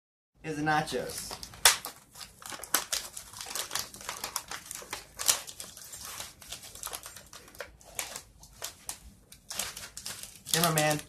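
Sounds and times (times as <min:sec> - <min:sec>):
plastic packaging crinkling: 0:01.0 - 0:11.0.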